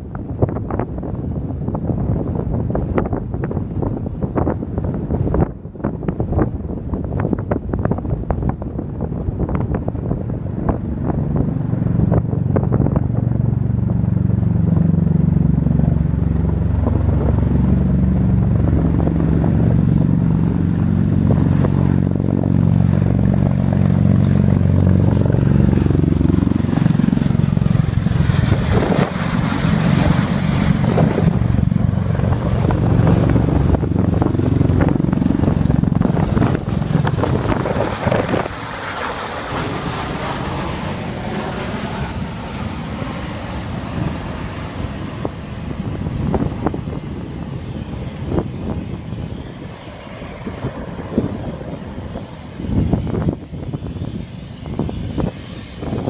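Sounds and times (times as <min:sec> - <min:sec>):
aircraft rotors droning: 0:00.0 - 0:56.0
high turbine whine: 0:00.0 - 0:56.0.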